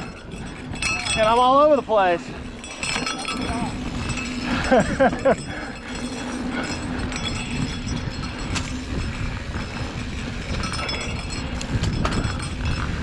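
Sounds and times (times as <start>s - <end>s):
bike rattling over bumps: 0.0s - 13.0s
bike tyres rumbling on dirt: 0.0s - 13.0s
wind buffeting camera: 0.0s - 13.0s.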